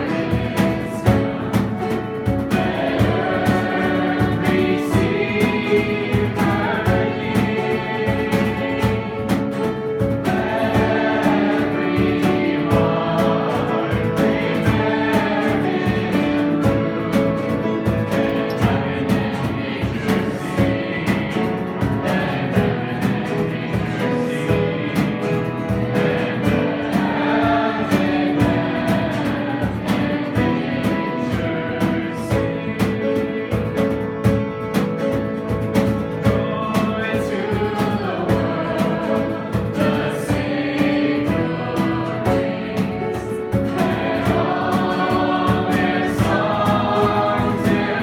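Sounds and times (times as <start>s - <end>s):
strummed guitar: 0.0s - 48.0s
voices singing: 0.0s - 48.0s.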